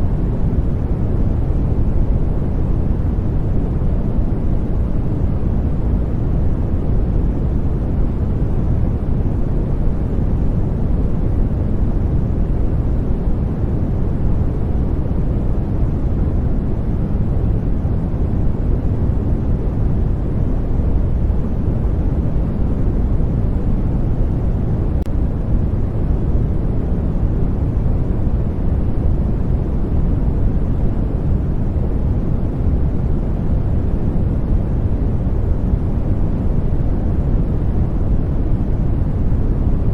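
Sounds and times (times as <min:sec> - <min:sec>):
deep white noise: 0:00.0 - 0:39.9.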